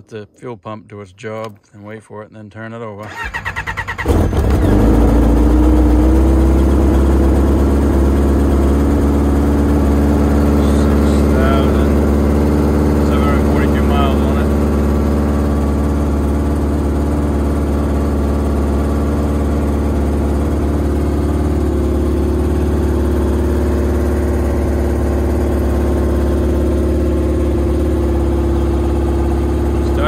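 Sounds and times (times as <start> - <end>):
snowmobile engine idling: 4.1 - 30.0.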